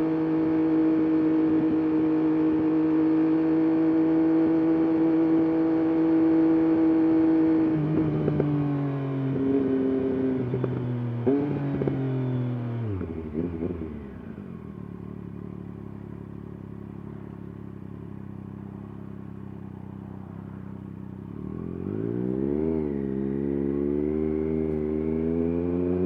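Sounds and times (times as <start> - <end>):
motorcycle engine and exhaust: 0.0 - 26.0.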